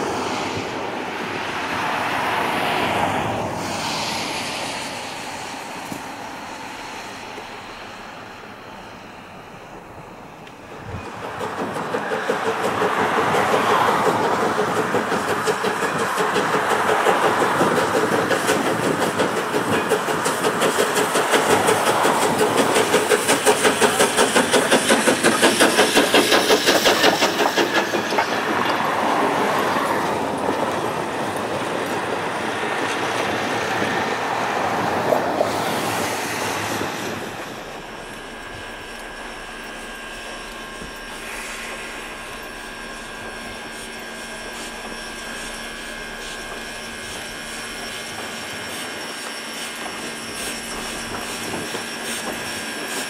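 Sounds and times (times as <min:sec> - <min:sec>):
steam engine exhaust chuffs: 0:03.8 - 0:34.4, 0:35.6 - 0:53.0.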